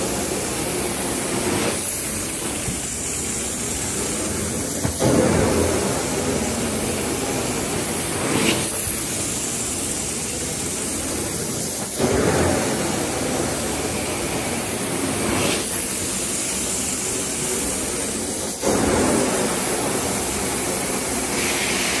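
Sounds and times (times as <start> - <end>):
carpet cleaning vacuum hissing: 0.0 - 22.0.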